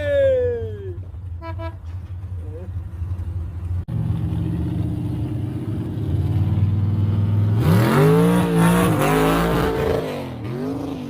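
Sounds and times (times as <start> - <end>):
car engine idling and revving: 1.0 - 11.0.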